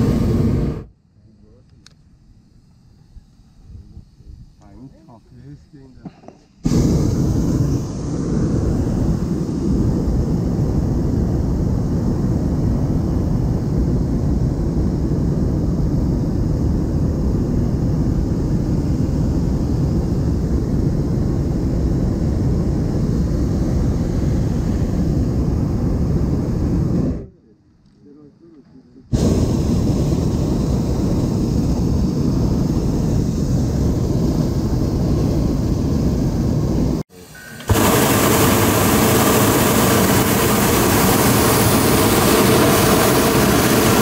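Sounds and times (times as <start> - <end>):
propane burner roaring: 0.0 - 0.9, 1.8 - 27.3, 29.1 - 44.0.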